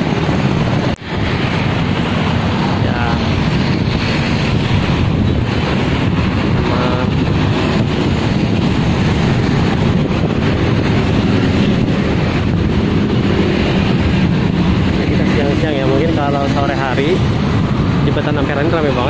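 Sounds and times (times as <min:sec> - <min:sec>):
motorcycles and cars passing: 0:00.0 - 0:19.0
wind buffeting microphone: 0:00.0 - 0:19.0.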